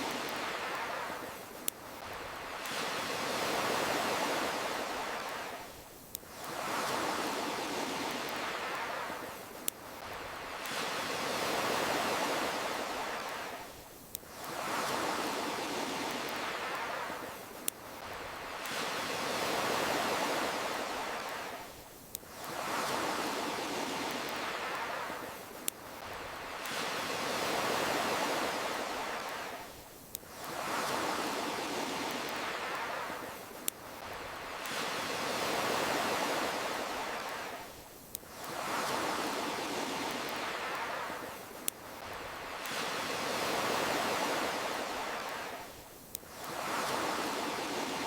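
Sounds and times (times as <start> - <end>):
campfire crackling and popping: 0.0 - 47.4
ocean waves washing ashore: 0.0 - 48.0.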